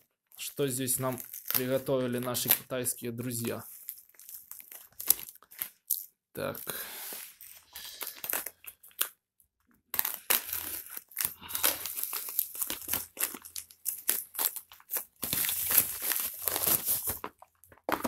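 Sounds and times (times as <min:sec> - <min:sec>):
plastic mailer crinkling: 0:00.0 - 0:06.5, 0:09.9 - 0:18.0.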